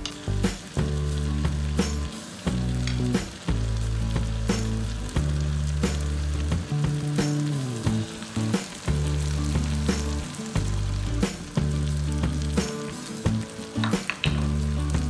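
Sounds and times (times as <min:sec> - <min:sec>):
chicken sizzling in hot oil: 0:00.0 - 0:15.0
low background music: 0:00.0 - 0:15.0.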